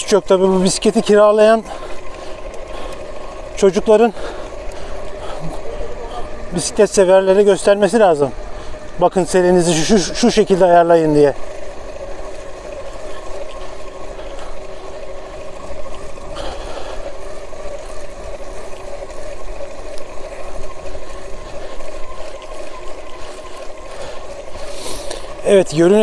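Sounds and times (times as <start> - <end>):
tyre hiss on asphalt: 1.6 - 26.0.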